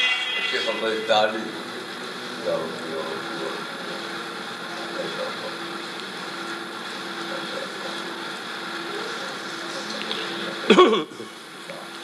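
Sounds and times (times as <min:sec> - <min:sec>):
constant hum: 0:00.0 - 0:12.0
recording hiss: 0:00.0 - 0:12.0.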